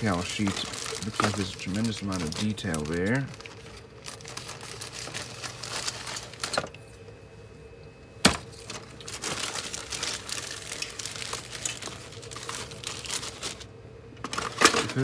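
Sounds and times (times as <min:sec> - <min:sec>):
plastic bag crinkling: 0:00.0 - 0:06.8, 0:08.4 - 0:15.0.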